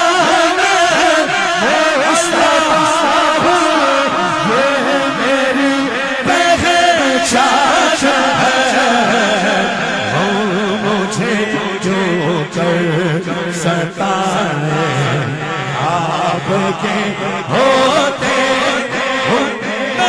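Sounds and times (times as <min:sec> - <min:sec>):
man singing with vibrato: 0:00.0 - 0:20.0.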